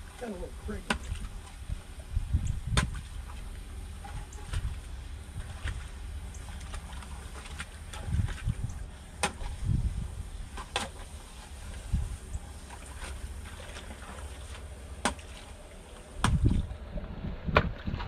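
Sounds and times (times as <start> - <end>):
low rumble: 0.0 - 10.6, 11.3 - 18.0.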